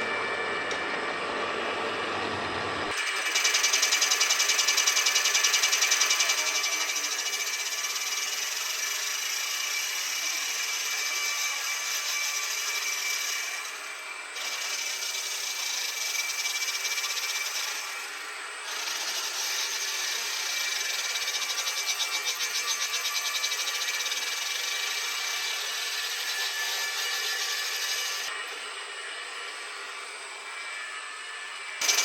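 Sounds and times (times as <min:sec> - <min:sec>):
machine tool cutting metal: 0:02.9 - 0:28.6, 0:31.8 - 0:32.0.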